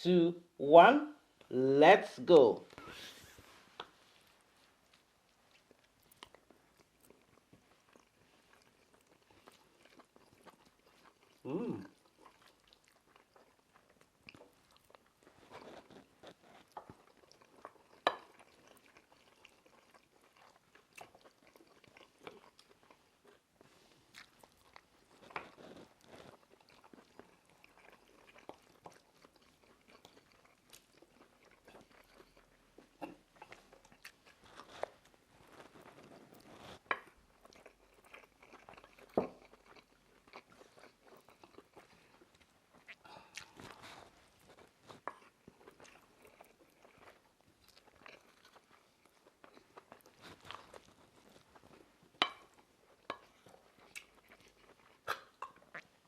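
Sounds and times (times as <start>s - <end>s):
people chewing food: 2.7s - 56.0s.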